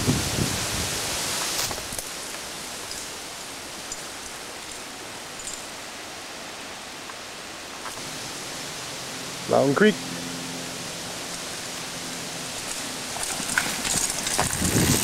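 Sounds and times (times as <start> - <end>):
woodland ambience hiss: 0.0 - 15.0.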